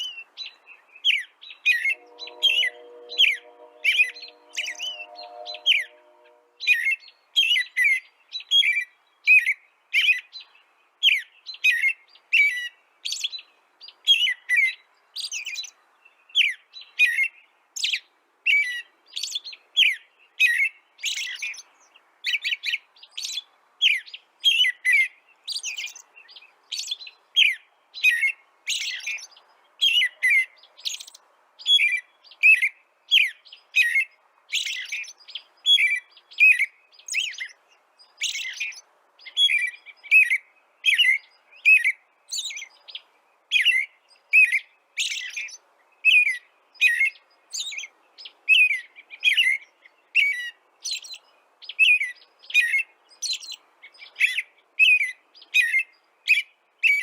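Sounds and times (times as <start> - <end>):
bird chirping: 0.0 - 8.8, 19.1 - 57.0.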